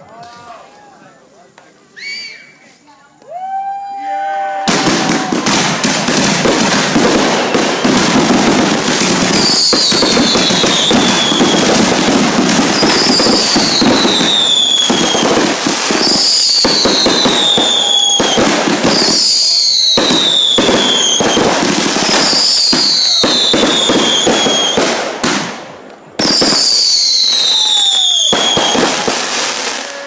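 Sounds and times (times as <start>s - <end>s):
falling firework whistle: 1.9s - 24.9s, 26.2s - 30.0s
fireworks bangs and crackling: 4.0s - 30.0s.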